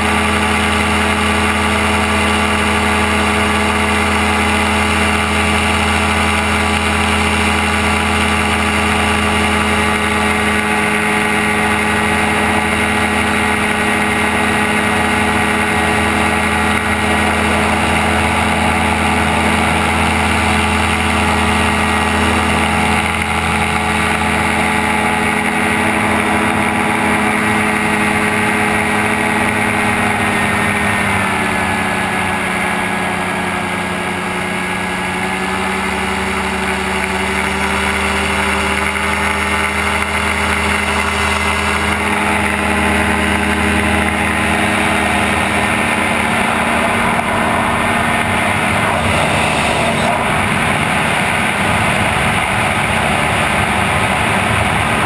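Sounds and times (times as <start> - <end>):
aircraft engine and propeller: 0.0 - 55.0.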